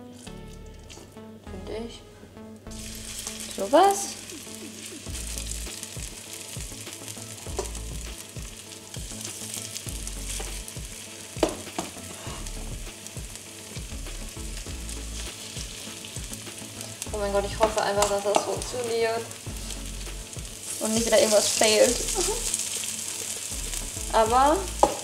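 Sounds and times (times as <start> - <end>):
batter sizzling in frying pan: 2.7 - 25.0.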